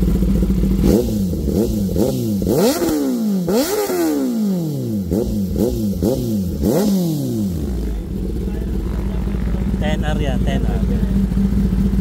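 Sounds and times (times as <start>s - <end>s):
motorcycle throttle blips: 0.0s - 12.0s.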